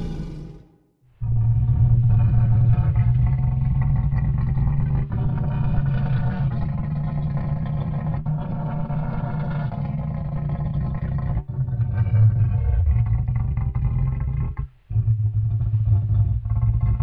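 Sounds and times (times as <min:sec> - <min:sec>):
deep rasping animal growl: 0:00.0 - 0:17.0.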